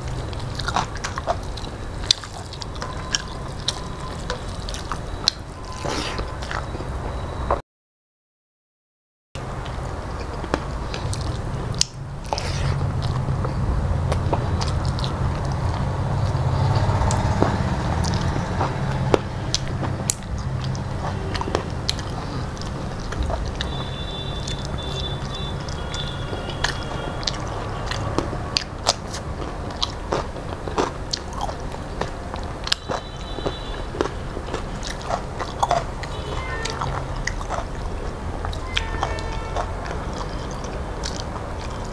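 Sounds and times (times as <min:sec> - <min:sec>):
wet mouth clicks: 0:00.0 - 0:06.7, 0:10.2 - 0:26.0, 0:26.6 - 0:41.9
person chewing food: 0:00.0 - 0:07.3, 0:09.6 - 0:41.9.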